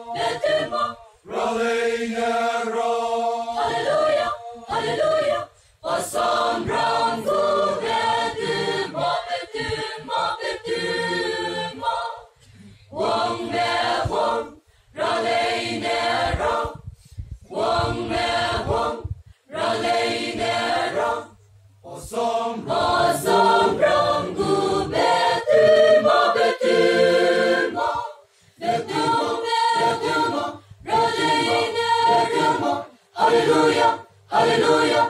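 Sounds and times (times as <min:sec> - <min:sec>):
mixed choir singing unaccompanied: 0:00.0 - 0:16.9, 0:17.5 - 0:35.0.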